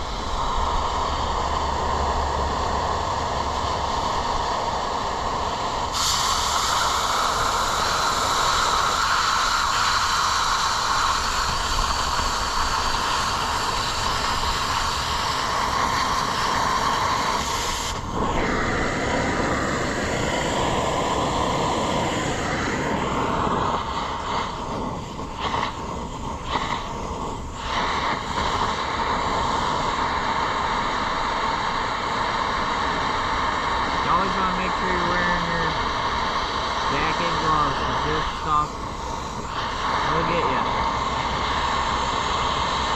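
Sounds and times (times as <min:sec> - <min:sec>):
cutting torch hissing: 0:00.0 - 0:42.9
sharper brighter hiss: 0:00.0 - 0:42.9.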